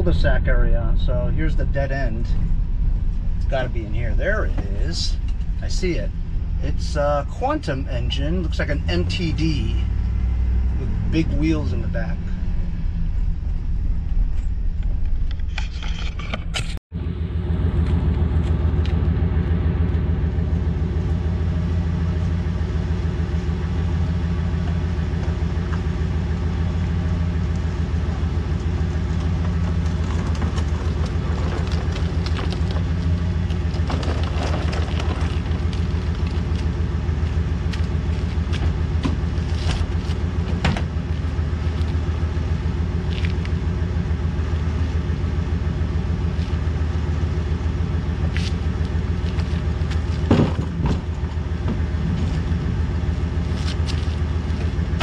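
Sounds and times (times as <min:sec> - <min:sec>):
van engine idling: 0:00.0 - 0:55.0.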